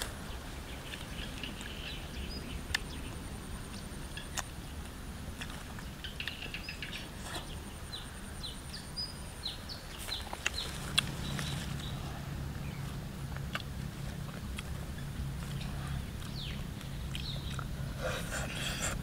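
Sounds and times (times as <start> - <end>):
low steady hum: 0.0 - 19.0
outdoor background noise: 0.0 - 19.0
small birds chirping: 0.0 - 19.0.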